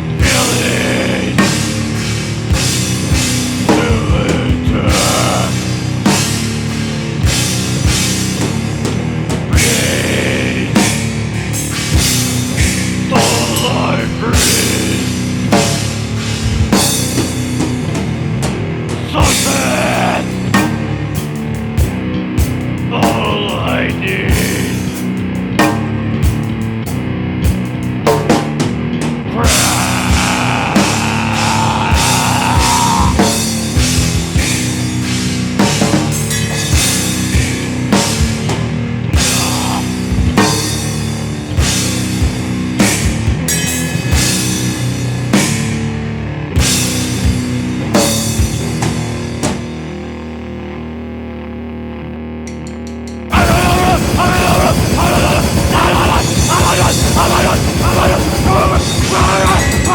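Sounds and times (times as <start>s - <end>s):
hard drum hits and cymbals: 0.0s - 23.4s, 24.3s - 49.8s, 52.4s - 59.9s
heavy rock song: 0.0s - 50.4s, 53.3s - 59.9s.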